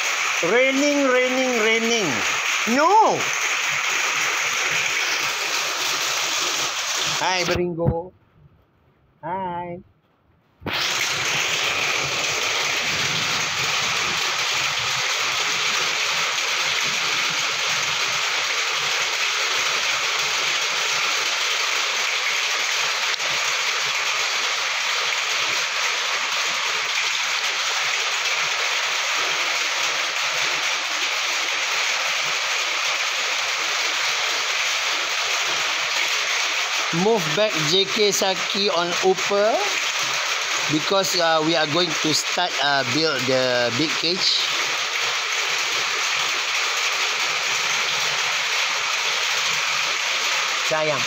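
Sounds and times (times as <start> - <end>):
heavy rain falling: 0.0 - 7.6, 10.7 - 51.0.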